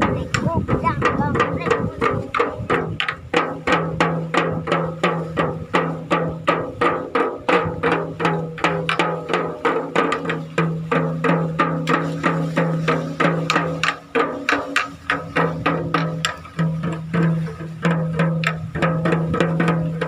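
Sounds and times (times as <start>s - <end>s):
music with even drum beat: 0.0s - 20.0s
toy drum beaten with sticks: 0.0s - 20.0s.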